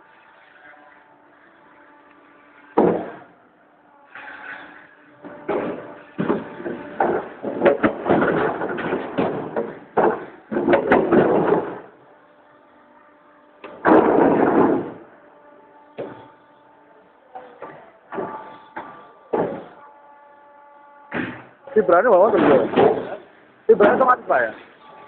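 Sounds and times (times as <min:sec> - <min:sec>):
faint motor hum: 0:00.0 - 0:25.0.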